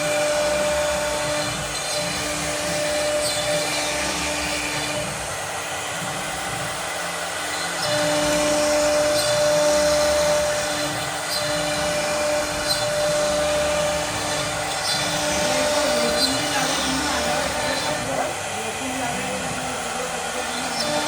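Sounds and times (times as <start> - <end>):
motor whine: 0.0 - 21.0.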